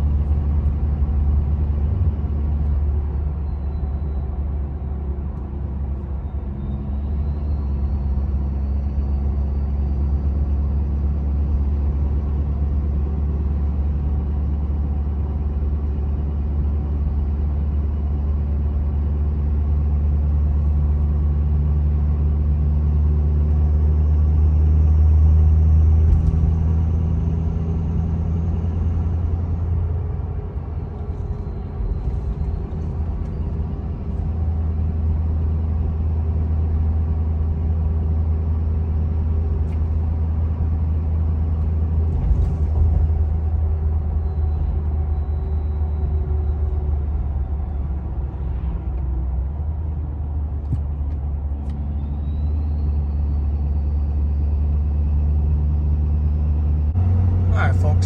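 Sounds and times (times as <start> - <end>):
diesel engine cab drone: 0.0 - 58.0
tires humming on road: 0.0 - 58.0.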